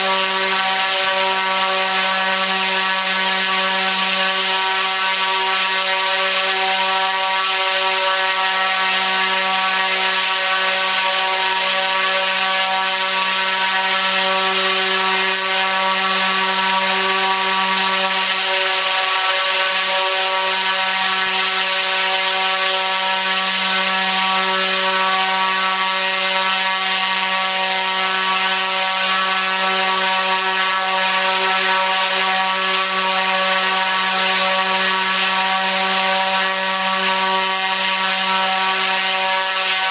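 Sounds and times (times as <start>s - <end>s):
electric motor drone: 0.0s - 39.9s
propeller air rush: 0.0s - 39.9s.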